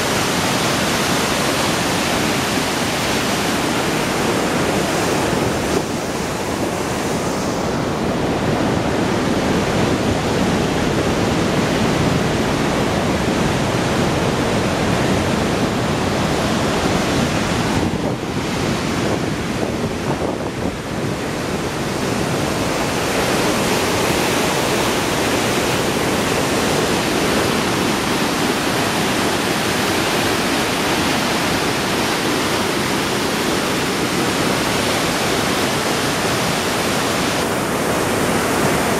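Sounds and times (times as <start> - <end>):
white water rushing over a dam: 0.0 - 38.9.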